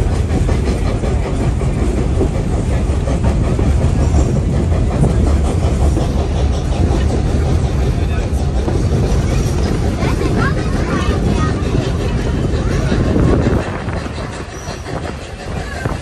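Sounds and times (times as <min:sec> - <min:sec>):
train rumbling: 0:00.0 - 0:16.0
wheels clicking on rails: 0:00.0 - 0:16.0.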